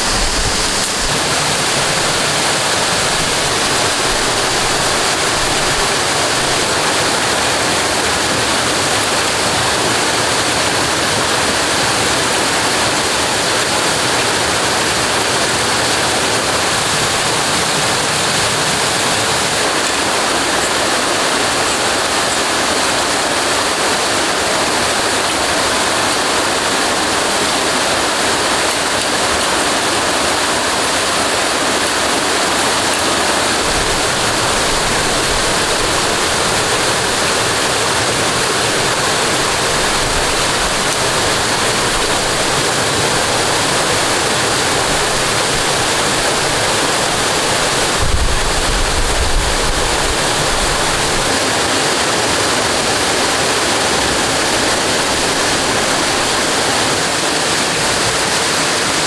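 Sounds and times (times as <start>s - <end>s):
waterfall splashing on rock: 0.0s - 59.0s.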